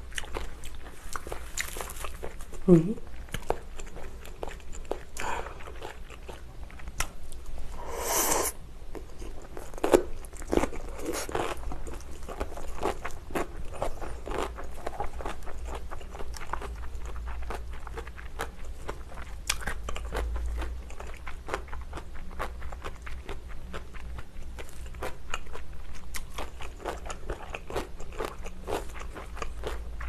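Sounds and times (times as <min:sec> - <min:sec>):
chewing crunchy food: 0:00.0 - 0:07.6, 0:08.9 - 0:30.0.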